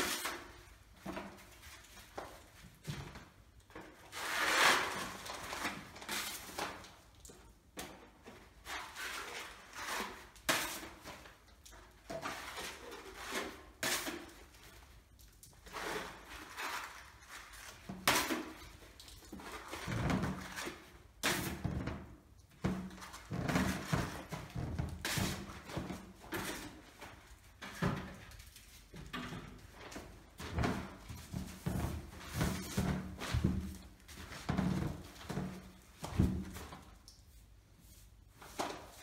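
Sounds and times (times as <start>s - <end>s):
plastering knife scraping wall: 0.0s - 7.1s, 7.8s - 39.0s.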